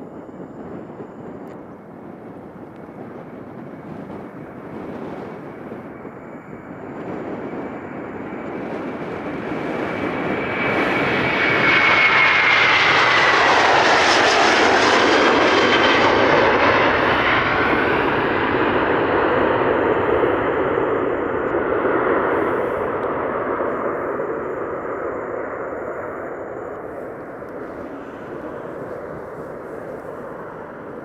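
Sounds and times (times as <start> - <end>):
high fan whine: 0.0 - 31.0
jet airliner taking off: 0.0 - 31.0.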